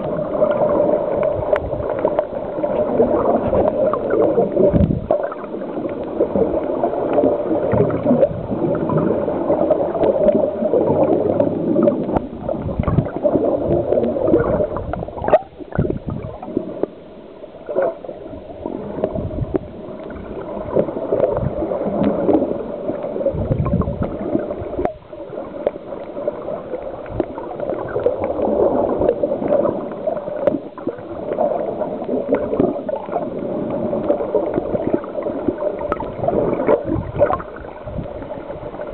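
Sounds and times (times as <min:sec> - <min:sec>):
muffled underwater gurgling: 0:00.0 - 0:38.9.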